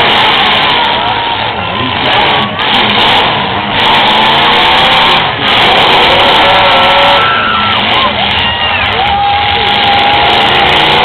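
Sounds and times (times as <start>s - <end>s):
car engines revving hard: 0.0s - 11.0s.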